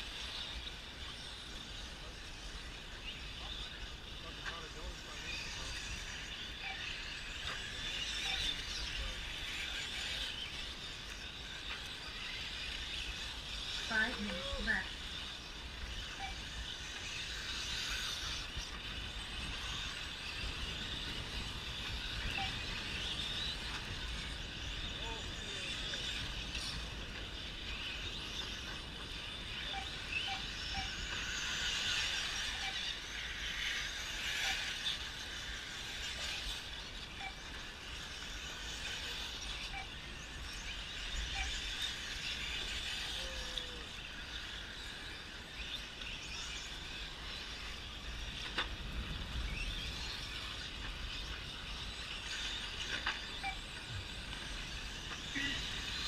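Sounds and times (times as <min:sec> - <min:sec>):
rc trucks motor whine: 0:00.0 - 0:56.0.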